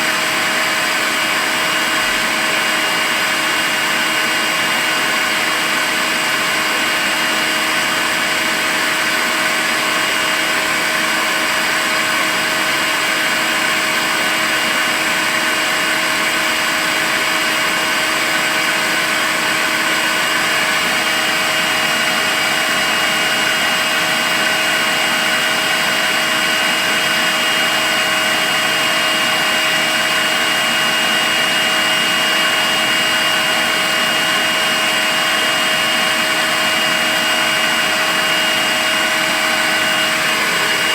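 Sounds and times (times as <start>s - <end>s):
cordless vacuum cleaner running: 0.0s - 40.9s.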